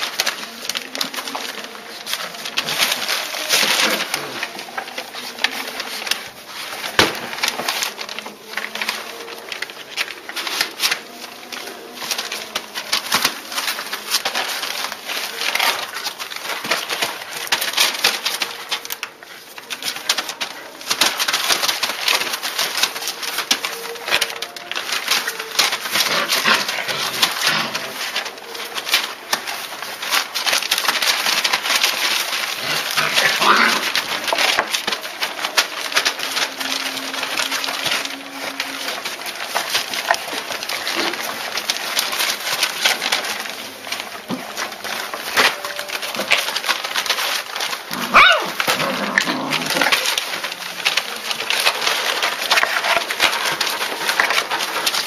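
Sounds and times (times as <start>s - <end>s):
crackle of small clicks: 0.0s - 55.0s.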